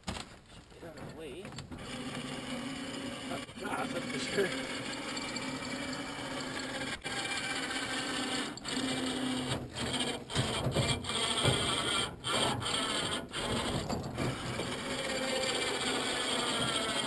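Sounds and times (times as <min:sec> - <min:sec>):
electric winch grinding under load: 0:01.6 - 0:17.0.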